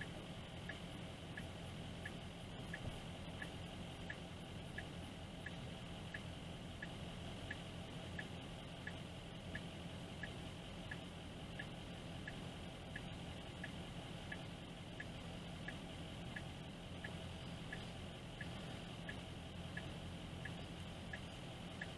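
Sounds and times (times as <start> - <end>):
car engine idling hum: 0.0 - 21.9
car turn signal ticking: 0.0 - 21.9.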